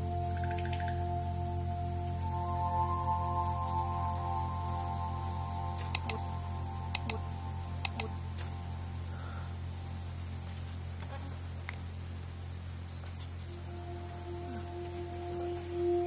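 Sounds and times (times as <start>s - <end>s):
high falling chirps: 0.0s - 10.5s, 13.5s - 16.0s
high-pitched insect drone: 0.0s - 16.0s
low steady hum: 0.0s - 16.0s
soft sustained musical tone: 0.0s - 16.0s.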